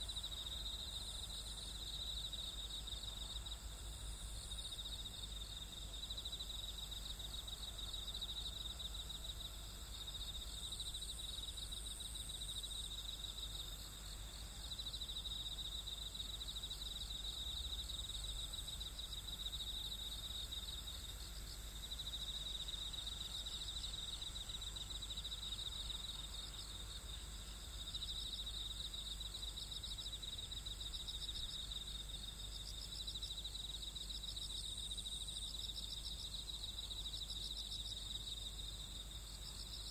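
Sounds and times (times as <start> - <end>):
insect hiss: 0.0 - 39.9.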